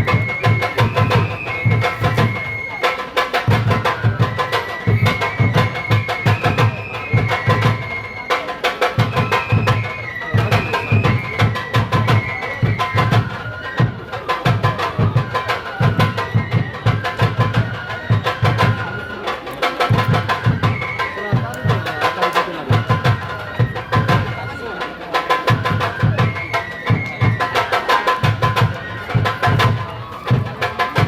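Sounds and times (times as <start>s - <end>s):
drums beating rapidly: 0.0s - 31.0s.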